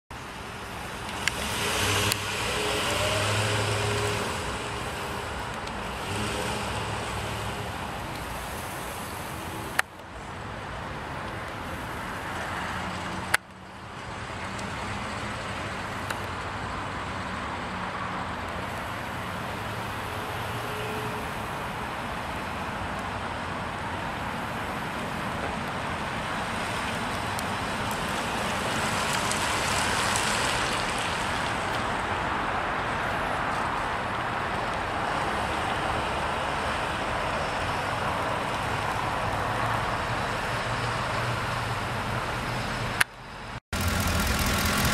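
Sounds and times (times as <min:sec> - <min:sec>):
pickup truck driving on pavement: 0:00.2 - 0:20.6, 0:21.2 - 0:44.9.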